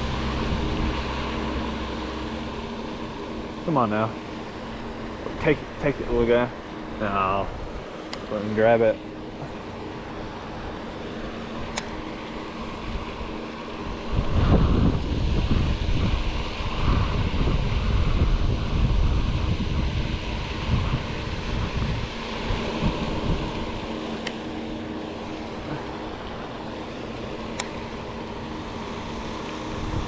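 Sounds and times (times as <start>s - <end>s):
wind buffeting microphone: 0.0s - 8.0s, 9.2s - 30.0s
steady low hum: 0.0s - 30.0s.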